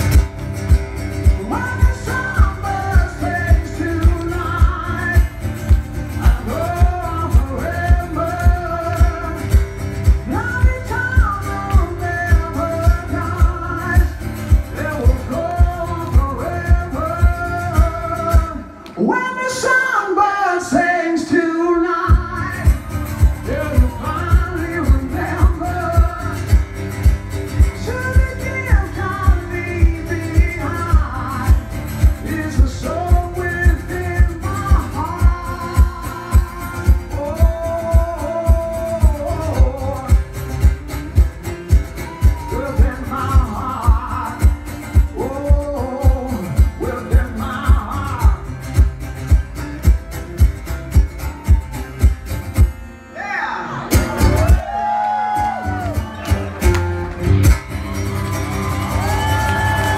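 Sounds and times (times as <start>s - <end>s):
strummed acoustic guitar: 0.0s - 18.8s, 22.0s - 59.9s
man singing: 1.1s - 52.2s.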